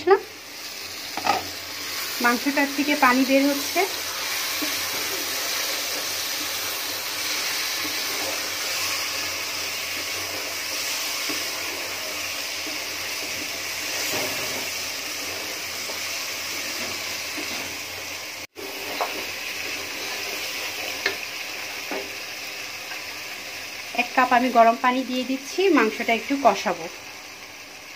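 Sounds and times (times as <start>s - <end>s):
meat sizzling in a pot: 0.0s - 27.9s.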